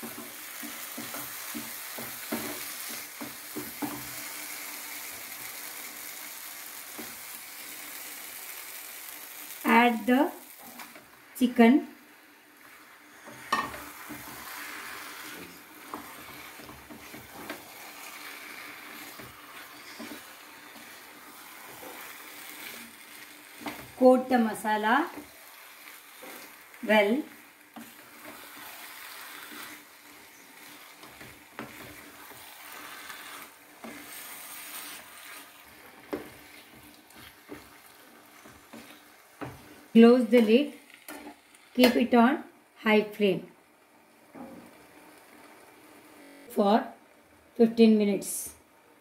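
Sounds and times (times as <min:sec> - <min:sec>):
chicken sizzling in a pan: 0:00.0 - 0:42.0.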